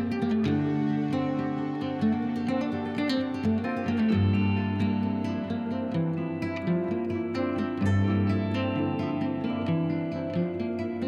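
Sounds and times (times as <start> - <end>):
plucked acoustic guitar melody: 0.0 - 11.0.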